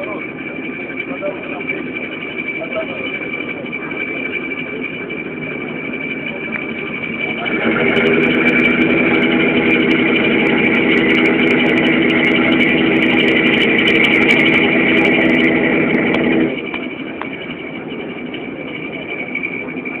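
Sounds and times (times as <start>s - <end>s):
high whine: 0.0s - 20.0s
ship engine drone: 0.0s - 20.0s.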